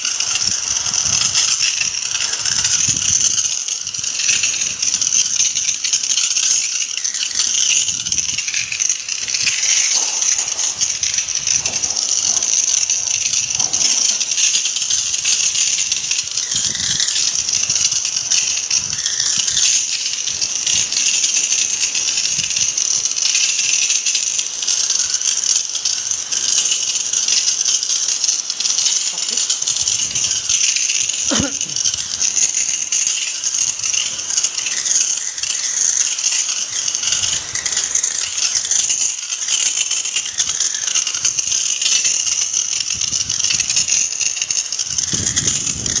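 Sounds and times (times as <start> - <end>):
water jet spraying on metal: 0.0 - 46.0.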